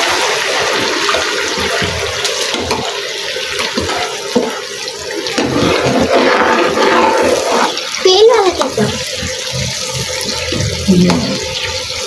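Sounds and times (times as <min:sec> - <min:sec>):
sauce sizzling in a frying pan: 0:00.0 - 0:12.0.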